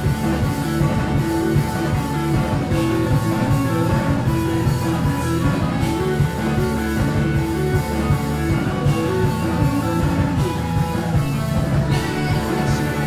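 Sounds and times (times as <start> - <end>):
bass guitar: 0.0 - 13.0
drum kit with cymbals: 0.0 - 13.0
electric guitar: 0.0 - 13.0.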